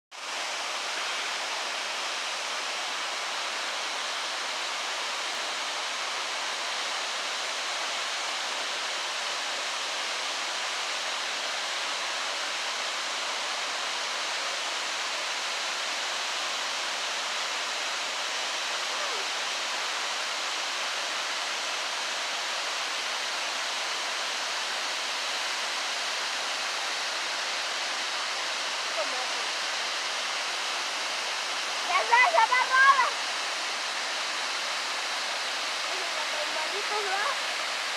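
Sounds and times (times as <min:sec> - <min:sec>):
waterfall roaring: 0:00.2 - 0:37.9.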